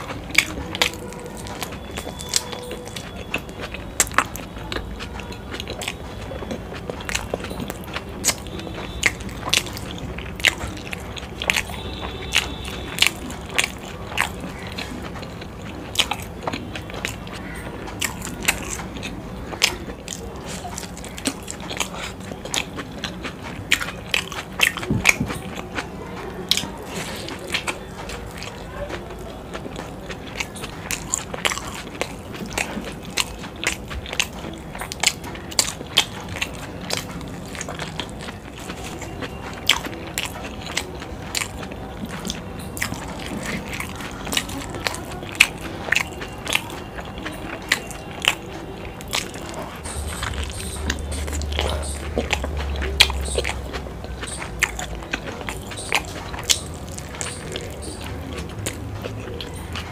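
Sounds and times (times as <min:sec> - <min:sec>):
wet chewing smacks and clicks: 0:00.0 - 0:59.9.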